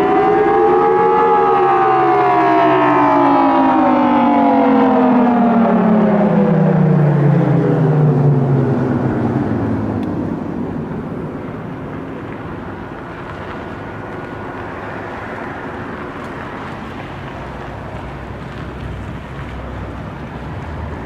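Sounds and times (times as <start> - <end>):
warning siren winding down: 0.0 - 17.4
steady outdoor rushing noise: 0.0 - 21.0.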